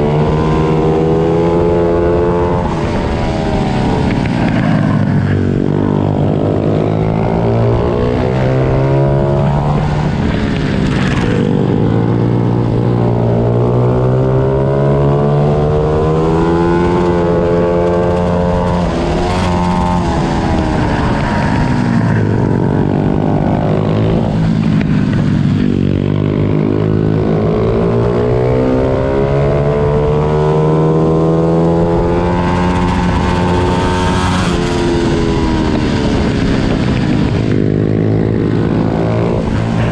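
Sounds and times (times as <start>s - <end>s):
small motorbike engines revving: 0.0s - 39.9s.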